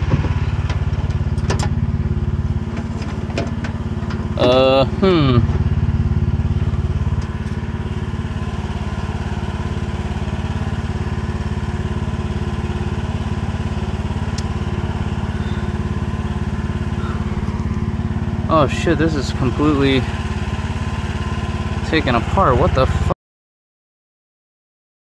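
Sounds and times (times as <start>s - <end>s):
engine idling: 0.0s - 23.2s.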